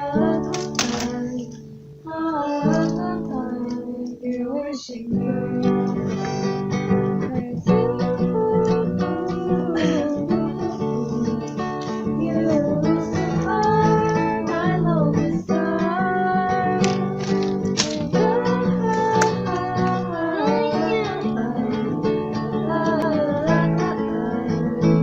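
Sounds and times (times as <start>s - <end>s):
acoustic guitar strumming: 0.0s - 4.1s, 5.1s - 25.0s.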